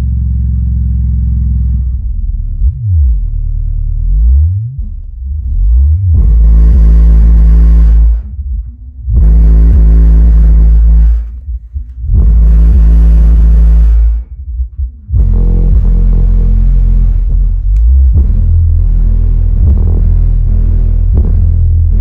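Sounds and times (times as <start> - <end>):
objects rattling with bass: 0.0 - 22.0
subwoofer playing deep bass: 0.0 - 22.0.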